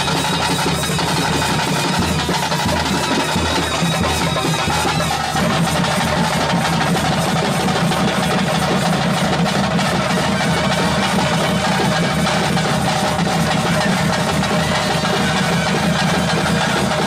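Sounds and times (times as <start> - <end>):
loud drum-led ritual music: 0.0 - 17.0.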